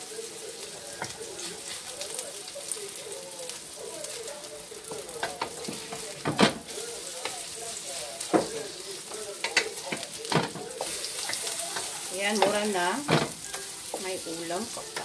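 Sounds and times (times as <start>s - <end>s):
patties sizzling in hot oil: 0.0s - 15.0s.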